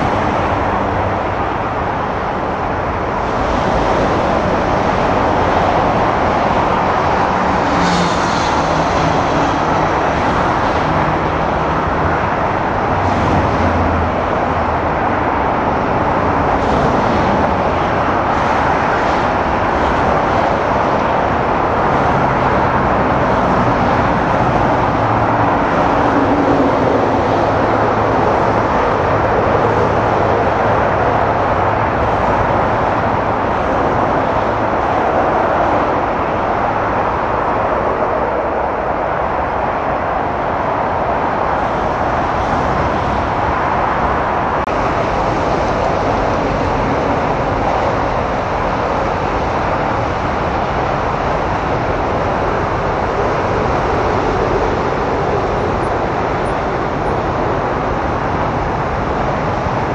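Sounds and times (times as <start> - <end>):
jet engine roar: 0.0 - 59.9
rushing air: 0.0 - 59.9.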